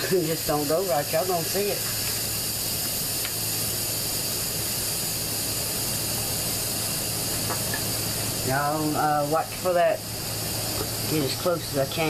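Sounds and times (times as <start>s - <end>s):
steam hissing from valve: 0.0s - 12.0s.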